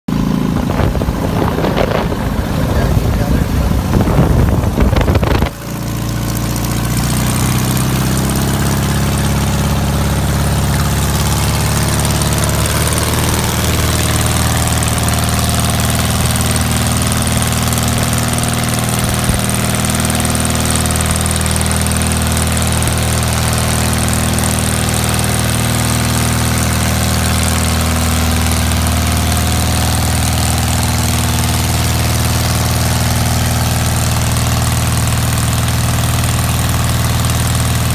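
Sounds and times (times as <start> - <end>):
engine idling: 0.1 - 37.9.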